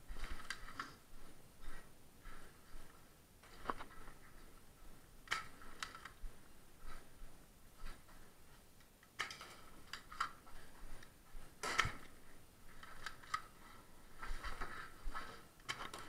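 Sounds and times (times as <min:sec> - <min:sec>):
footsteps on debris-strewn floor: 0:00.0 - 0:08.8, 0:09.6 - 0:16.0.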